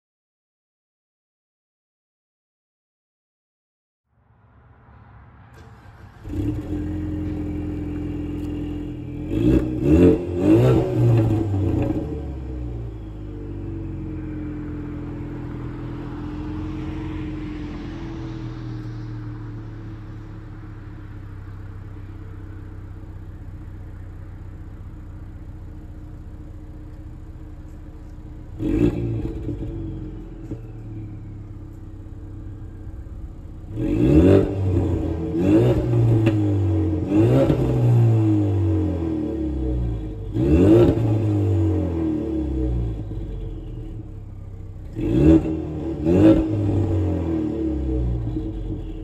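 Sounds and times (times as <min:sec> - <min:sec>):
car engine idling and revving: 0:04.2 - 0:49.0.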